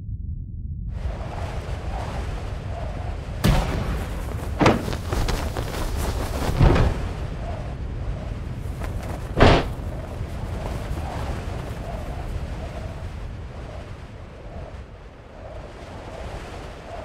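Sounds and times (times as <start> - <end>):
rushing air rumble: 0.1 - 17.0.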